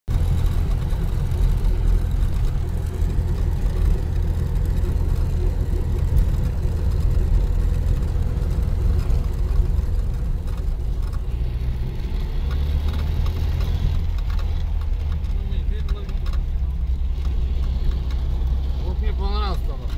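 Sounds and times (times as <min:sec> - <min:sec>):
vehicle engine droning: 0:00.1 - 0:19.9.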